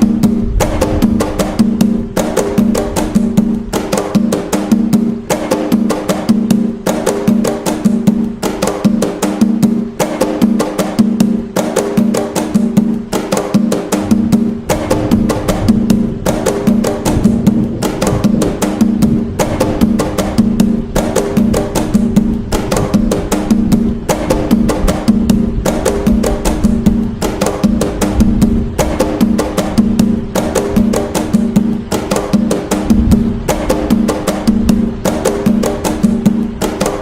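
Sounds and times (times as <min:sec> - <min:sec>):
hand drums playing fast rhythm: 0:00.0 - 0:37.0.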